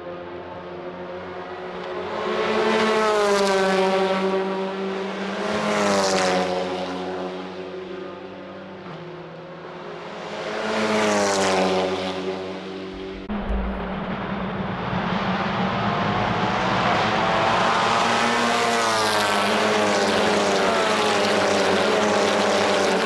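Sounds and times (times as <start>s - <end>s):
distant race car engines: 0.0s - 23.0s
race cars passing at speed: 0.0s - 23.0s.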